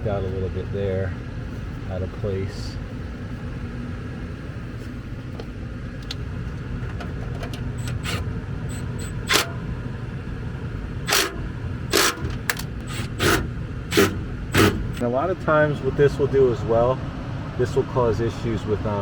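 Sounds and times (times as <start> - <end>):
gas furnace rumbling: 0.0 - 19.0.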